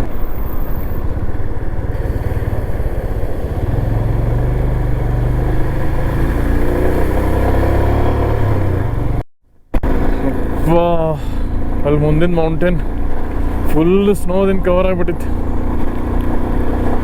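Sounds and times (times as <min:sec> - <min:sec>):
motorcycle engine running: 0:00.0 - 0:09.2, 0:09.8 - 0:17.0.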